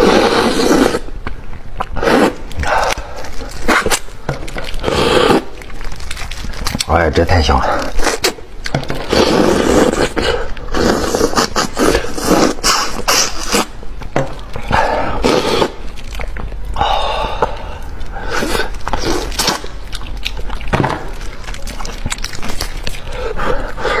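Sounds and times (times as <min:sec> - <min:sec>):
wet chewing and lip smacking: 0:01.1 - 0:06.9, 0:09.8 - 0:24.0.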